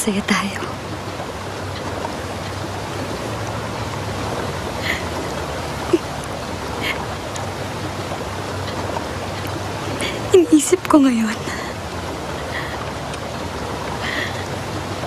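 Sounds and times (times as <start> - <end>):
sea waves rushing: 0.0 - 15.0.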